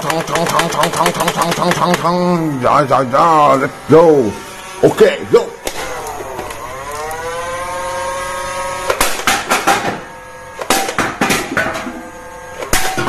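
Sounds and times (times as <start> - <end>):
toy gun motor whirring: 0.0 - 11.0.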